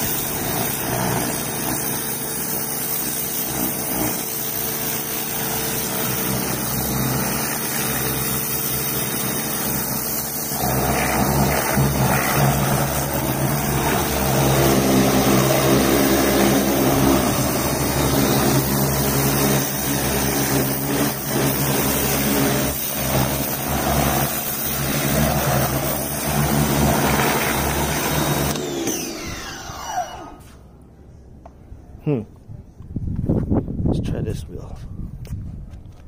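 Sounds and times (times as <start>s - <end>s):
water jet hissing on tyre: 0.0s - 29.5s
pressure washer motor humming: 0.0s - 30.7s.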